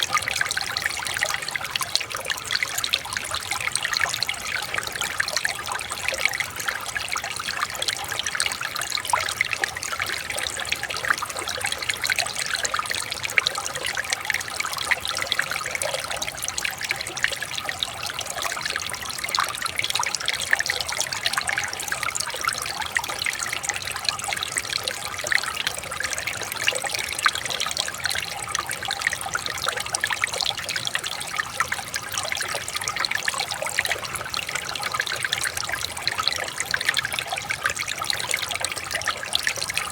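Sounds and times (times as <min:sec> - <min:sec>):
stream water trickling over stones: 0:00.0 - 0:39.9.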